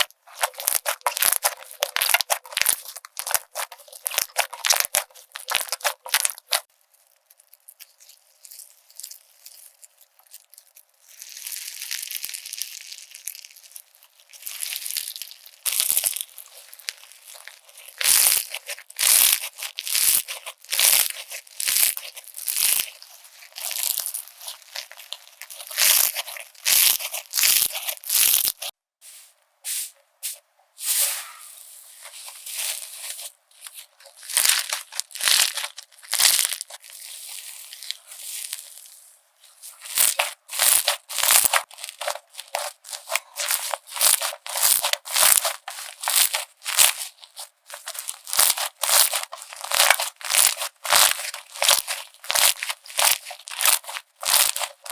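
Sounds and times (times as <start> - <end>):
slime squishing and popping: 0.0 - 28.7, 34.1 - 38.8, 39.8 - 54.9.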